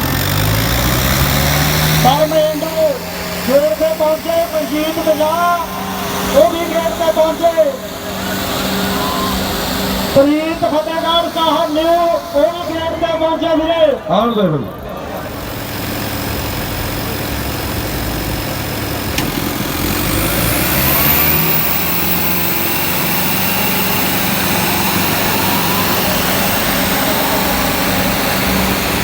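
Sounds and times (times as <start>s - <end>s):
diesel tractor engines running hard: 0.0s - 29.0s.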